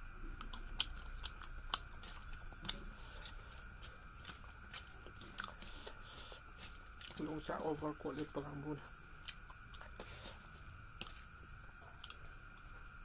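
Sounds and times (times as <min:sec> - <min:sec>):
person chewing rice: 0:00.2 - 0:13.0.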